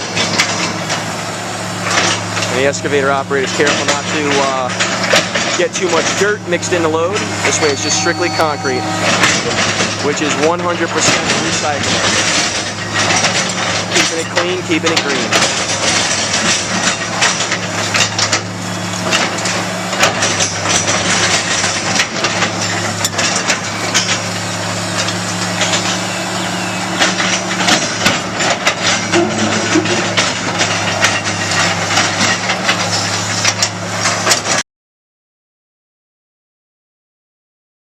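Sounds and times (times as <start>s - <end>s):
excavator engine running: 0.0s - 34.6s.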